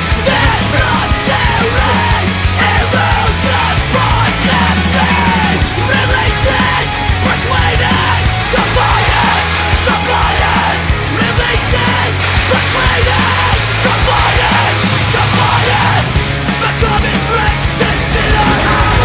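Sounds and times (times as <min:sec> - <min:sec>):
driving bass line: 0:00.0 - 0:19.0
heavy rock music: 0:00.0 - 0:19.0
shouted vocals: 0:00.0 - 0:19.0.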